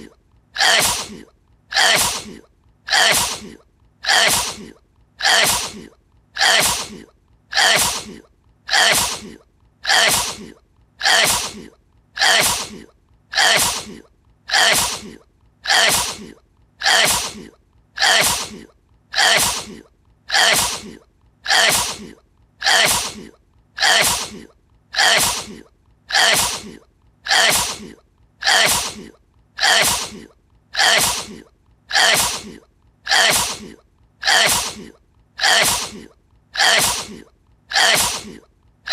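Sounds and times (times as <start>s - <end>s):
person sneezing: 0.0s - 38.9s.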